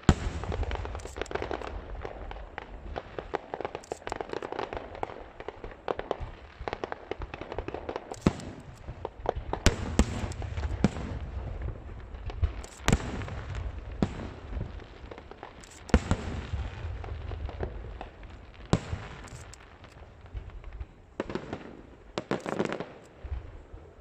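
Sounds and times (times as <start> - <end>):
loud firework bangs: 0.0 - 23.6
fireworks bursting and crackling: 0.0 - 24.0.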